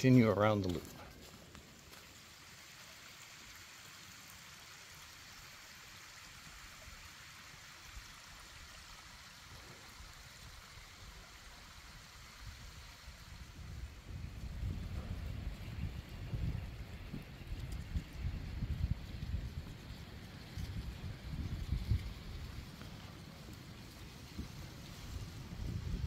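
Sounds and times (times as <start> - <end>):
creek running over stones: 0.0 - 26.0.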